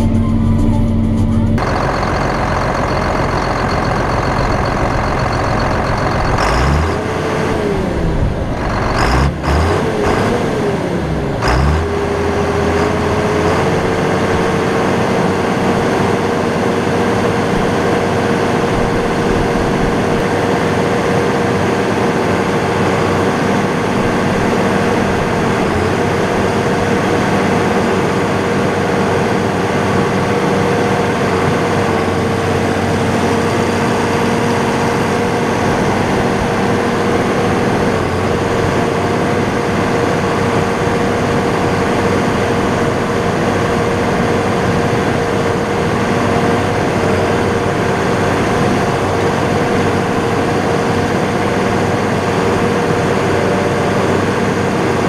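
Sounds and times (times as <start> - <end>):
high whine over engine: 0.0 - 55.0
tractor diesel engine running: 0.0 - 55.0.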